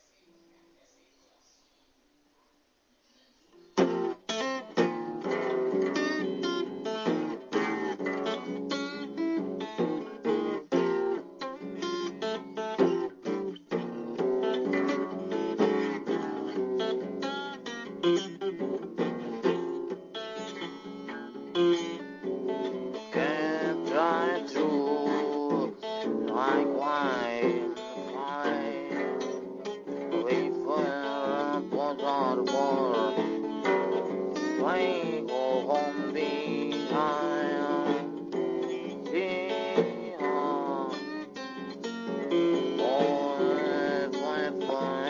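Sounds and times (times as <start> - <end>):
acoustic guitar picking: 3.6 - 45.0.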